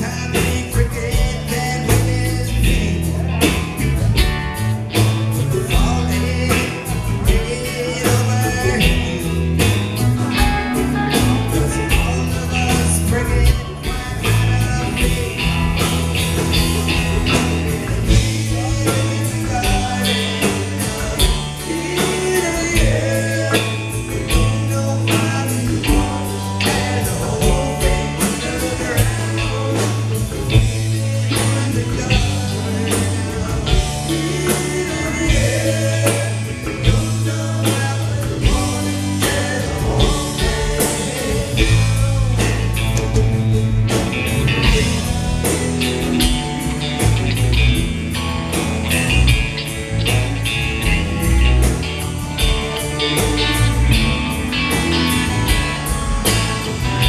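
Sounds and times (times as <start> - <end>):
drum kit steady beat: 0.0 - 57.0
electric bass: 0.0 - 57.0
electric guitars: 0.0 - 57.0
lead vocal singing: 0.0 - 57.0.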